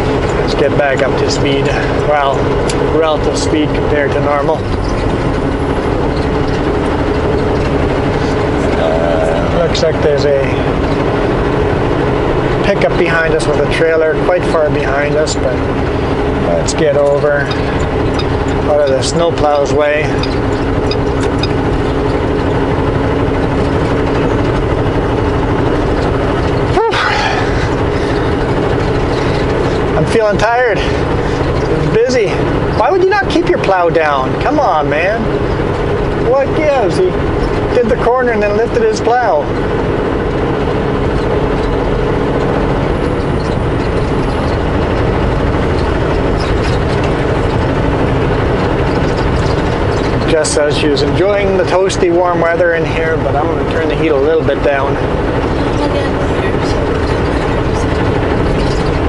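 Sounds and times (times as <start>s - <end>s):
road noise: 0.0s - 59.0s
truck diesel engine running: 0.0s - 59.0s.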